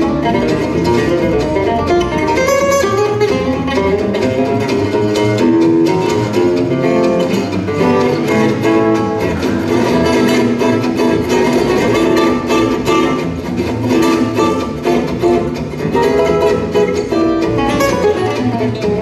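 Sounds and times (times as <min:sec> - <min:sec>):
acoustic guitar lead lines: 0:00.0 - 0:19.0
plucked double bass: 0:00.0 - 0:19.0.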